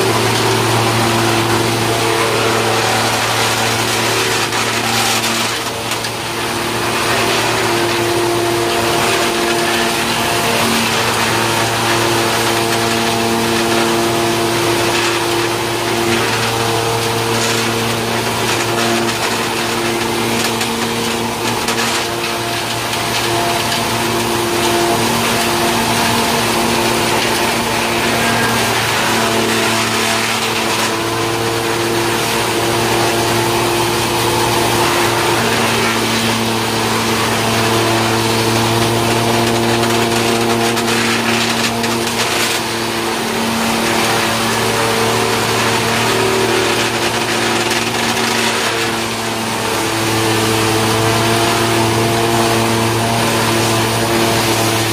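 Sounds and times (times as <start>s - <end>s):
sawdust machine motor humming: 0.0s - 54.9s
wood grinding rushing noise: 0.0s - 54.9s.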